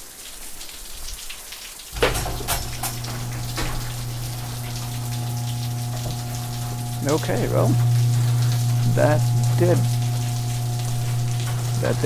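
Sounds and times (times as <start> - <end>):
garage door clacking: 2.0 - 12.0
garage door opener motor humming: 2.0 - 12.0
motor switch click: 2.0 - 12.0.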